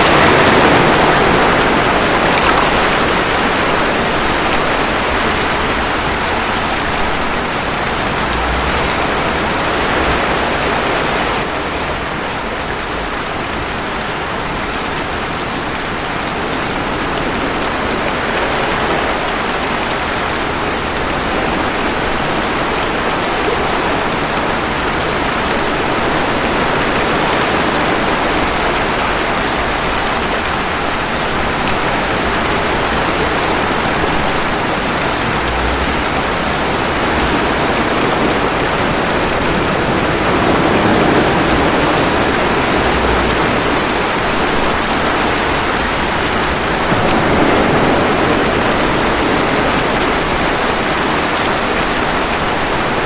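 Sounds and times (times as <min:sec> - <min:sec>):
ocean waves washing ashore: 0:00.0 - 0:53.0
steady rain falling: 0:00.0 - 0:53.0.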